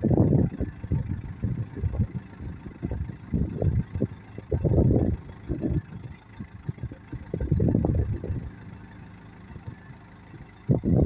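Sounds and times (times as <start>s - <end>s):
wind buffeting microphone: 0.0s - 8.9s, 10.6s - 11.0s
diesel engine running: 0.0s - 11.0s.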